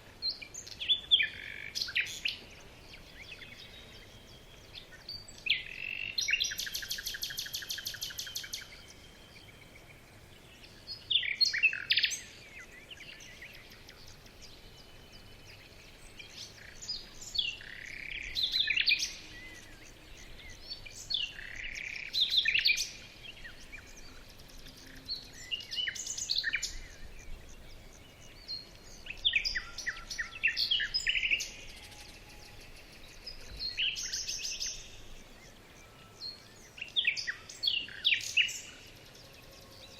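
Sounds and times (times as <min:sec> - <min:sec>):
sweeping high bird calls: 0:00.4 - 0:39.9.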